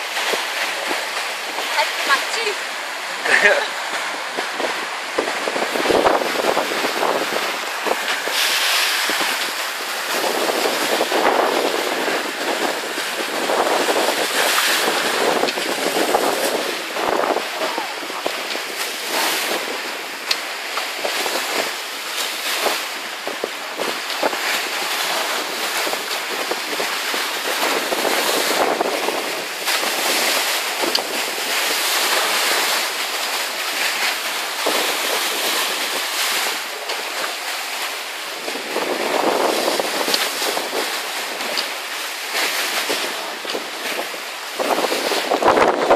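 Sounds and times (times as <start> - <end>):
water rushing past hull: 0.0 - 45.9
wind buffeting microphone: 0.0 - 45.9.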